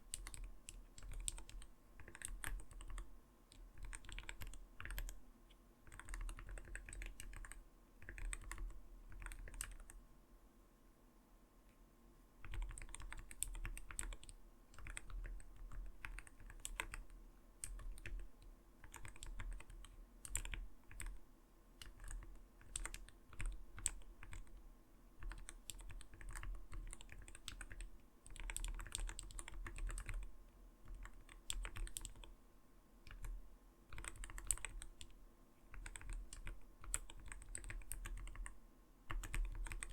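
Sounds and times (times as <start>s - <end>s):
mechanical keyboard typing: 0.1s - 5.2s, 5.8s - 10.0s, 12.4s - 21.2s, 21.8s - 24.6s, 25.2s - 30.3s, 30.9s - 32.3s, 33.0s - 39.9s.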